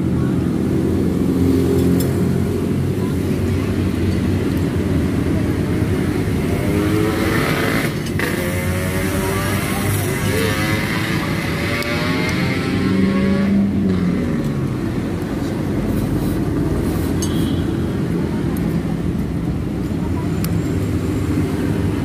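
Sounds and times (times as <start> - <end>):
passing vehicle engines: 0.0 - 22.0.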